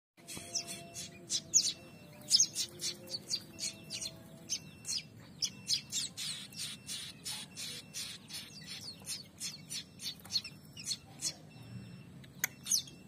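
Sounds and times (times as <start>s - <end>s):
young birds chirping: 0.2s - 13.0s.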